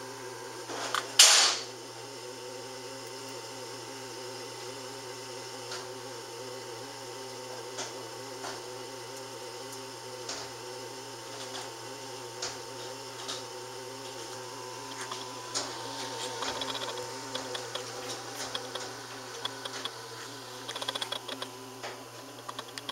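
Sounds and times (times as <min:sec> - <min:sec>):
lathe machine hum: 0:00.0 - 0:22.9.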